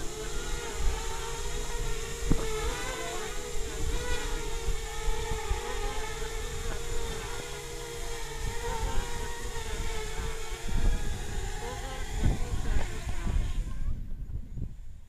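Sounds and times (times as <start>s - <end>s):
electric motors whining: 0.0s - 14.7s
wind rumbling on microphone: 0.0s - 15.0s.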